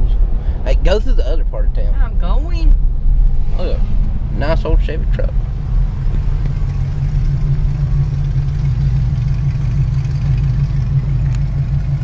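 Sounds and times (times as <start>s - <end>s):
car engine drone inside cabin: 0.0s - 12.0s.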